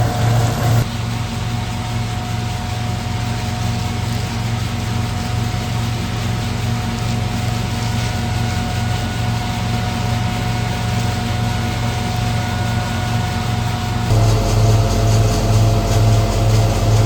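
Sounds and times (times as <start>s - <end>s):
threshing machine engine drone: 0.0s - 17.0s.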